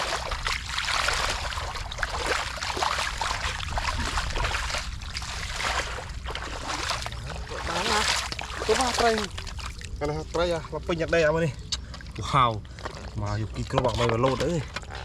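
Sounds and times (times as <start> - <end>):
steady low rumble: 0.0 - 13.7
shallow water splashing: 0.0 - 15.0.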